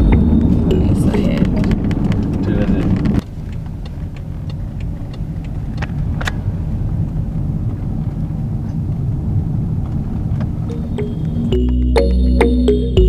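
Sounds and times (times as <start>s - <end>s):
road and engine rumble in car: 0.0s - 11.6s.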